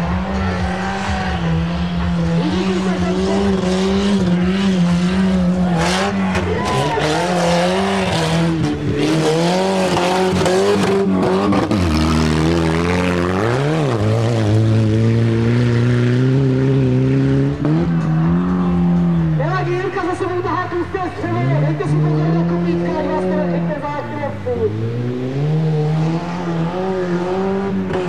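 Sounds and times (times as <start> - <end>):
racing car engines under load: 0.0 - 28.0.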